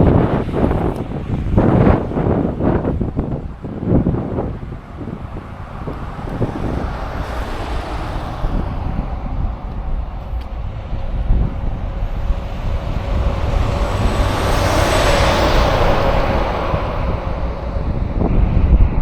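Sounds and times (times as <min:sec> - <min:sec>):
highway traffic rushing: 0:00.0 - 0:19.0
wind buffeting microphone: 0:00.0 - 0:19.0.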